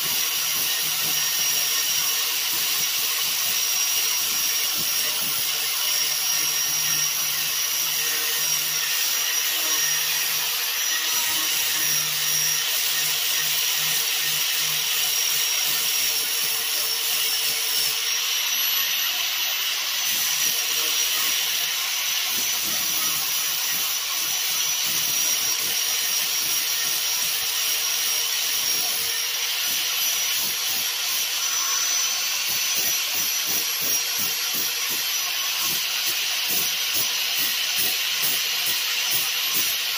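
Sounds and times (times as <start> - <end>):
angle grinder sanding filler: 0.0 - 39.9.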